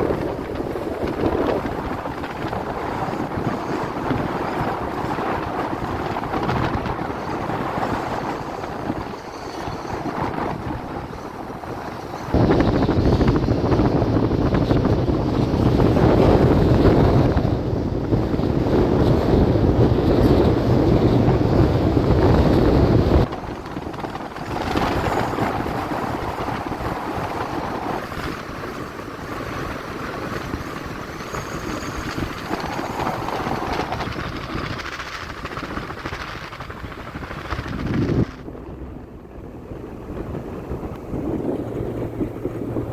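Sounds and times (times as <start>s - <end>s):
soft steady wind rush: 0.0s - 42.9s
wind rumble on microphone: 0.0s - 42.9s.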